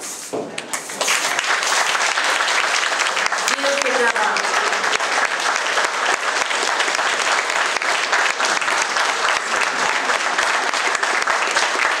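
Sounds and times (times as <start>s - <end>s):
audience applauding: 0.7s - 12.0s.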